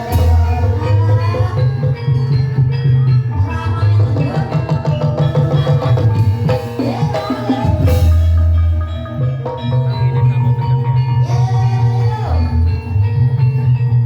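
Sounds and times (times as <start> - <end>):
ringing metallophone tones: 0.0 - 14.0.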